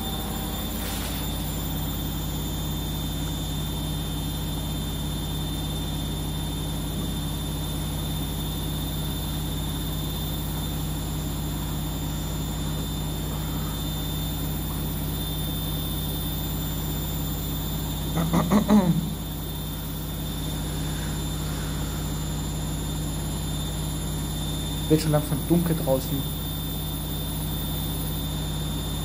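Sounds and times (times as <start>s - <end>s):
washing machine humming: 0.0s - 29.0s.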